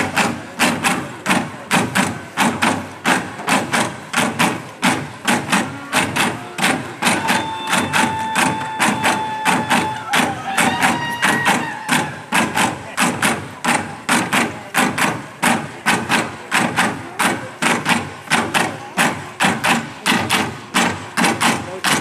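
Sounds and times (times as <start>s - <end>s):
sharp evenly spaced beats: 0.0s - 22.0s.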